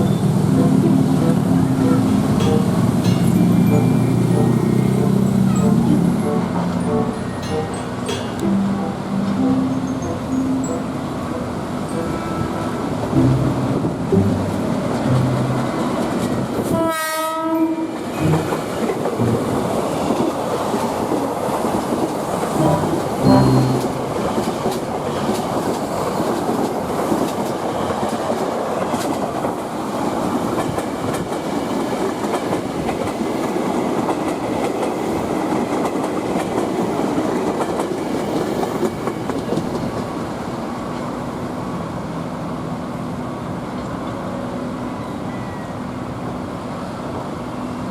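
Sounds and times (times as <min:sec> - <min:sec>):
train wheels clattering on rails: 0:00.0 - 0:16.9, 0:17.9 - 0:41.3
low train hum: 0:00.0 - 0:47.9.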